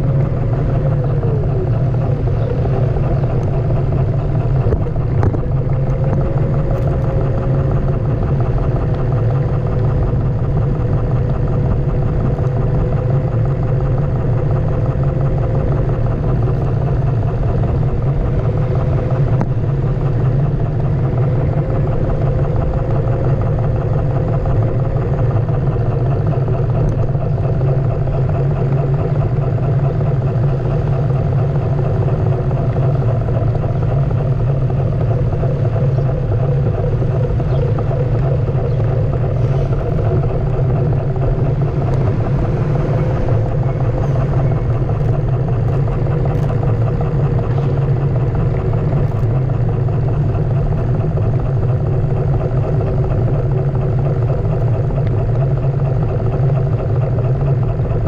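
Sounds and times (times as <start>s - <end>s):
electric board rolling on pavement: 0.0s - 58.0s
faint motor hum: 0.0s - 58.0s.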